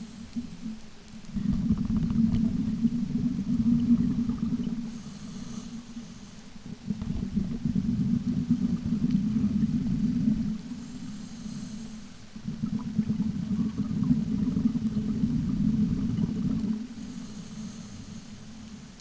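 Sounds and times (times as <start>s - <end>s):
faint breathing hiss: 0.0s - 19.0s
underwater bubbles rumbling: 0.0s - 19.0s.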